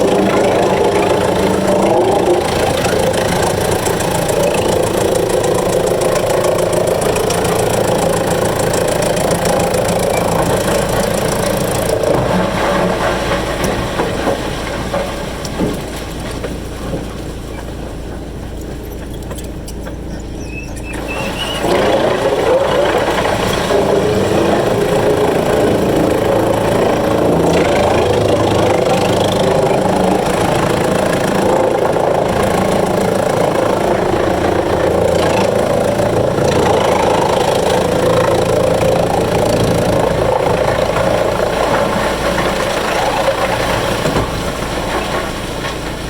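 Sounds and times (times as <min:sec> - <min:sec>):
wood chipper engine running: 0:00.0 - 0:46.0.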